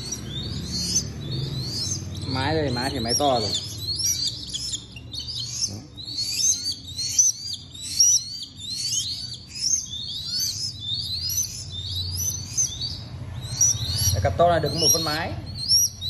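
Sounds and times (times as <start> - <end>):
hawk chicks chirping: 0.0 - 16.0.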